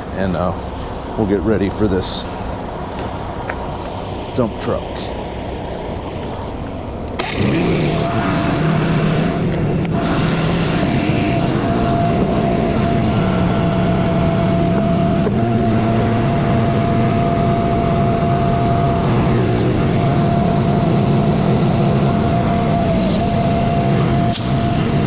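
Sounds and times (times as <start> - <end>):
high whine: 0.0 - 25.0
truck diesel engine running: 0.0 - 25.0.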